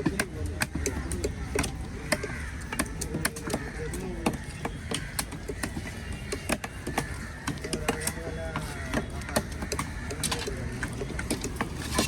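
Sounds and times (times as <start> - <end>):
knife chopping fish on wood: 0.0 - 12.0
market chatter: 0.0 - 12.0.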